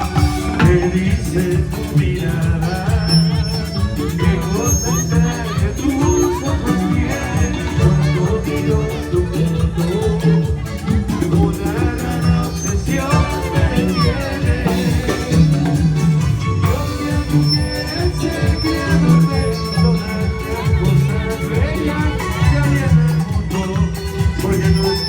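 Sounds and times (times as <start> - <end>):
live band playing latin music: 0.0 - 25.0
person singing: 0.0 - 25.0.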